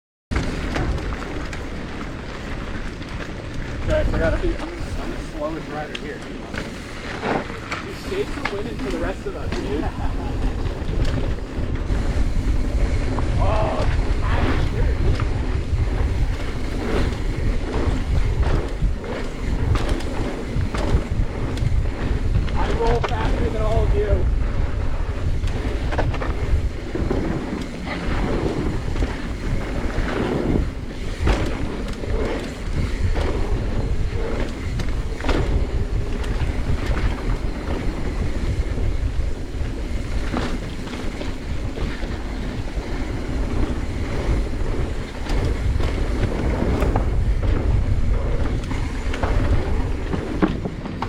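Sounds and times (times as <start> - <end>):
bike knocks and rattles: 0.3 - 51.0
wind rushing over microphone: 0.3 - 51.0.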